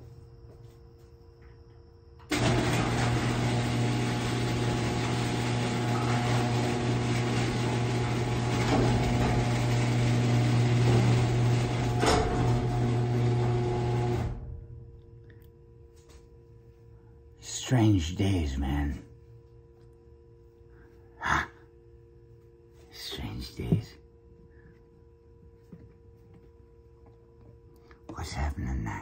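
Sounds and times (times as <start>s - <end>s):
small machine humming and hissing: 0.0s - 29.0s.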